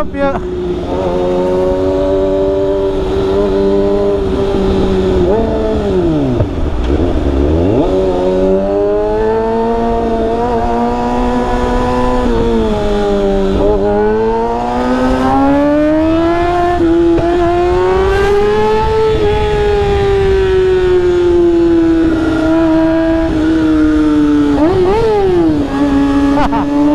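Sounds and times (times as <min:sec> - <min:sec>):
motorcycle engine accelerating: 0:00.0 - 0:26.9
wind noise: 0:00.0 - 0:26.9.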